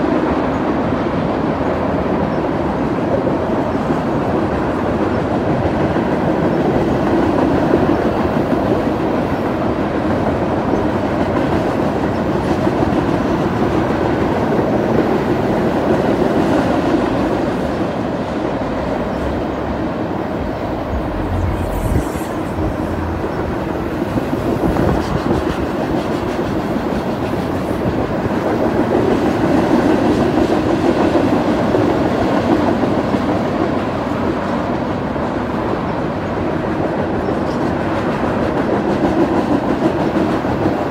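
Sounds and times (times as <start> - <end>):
freight train wheels rumbling: 0.0 - 40.9
rail joints clickety-clack: 0.0 - 40.9.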